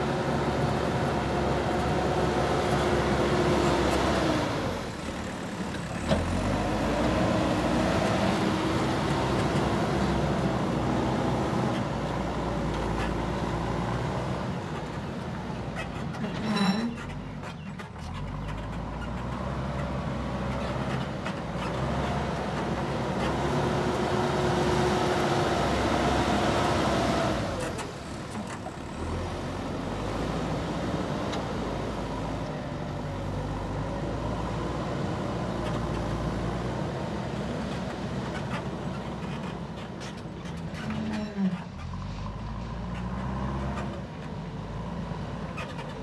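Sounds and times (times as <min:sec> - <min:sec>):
diesel engine revving: 0:00.0 - 0:16.4, 0:17.0 - 0:46.0.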